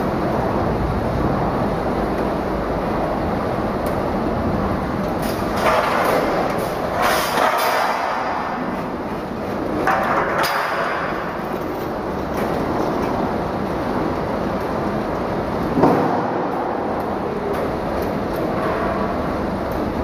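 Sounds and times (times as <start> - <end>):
bagging machine running: 0.0 - 20.0.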